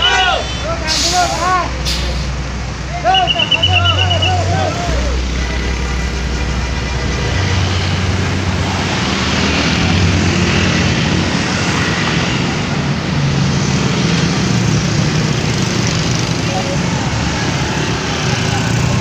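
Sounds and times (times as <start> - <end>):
diesel bus engine droning: 0.0 - 19.0
road noise: 0.0 - 19.0.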